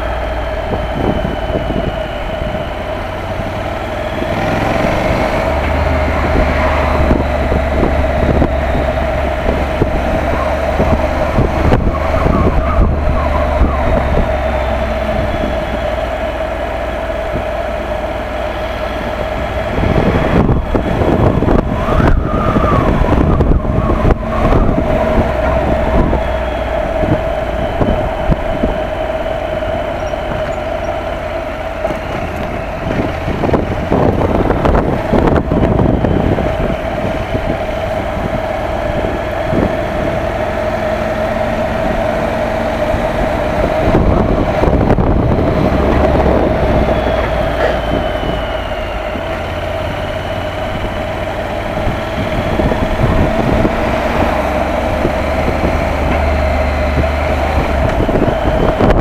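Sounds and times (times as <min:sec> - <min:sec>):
motorcycle engine humming: 0:00.0 - 0:59.0
wind buffeting microphone: 0:00.0 - 0:59.0.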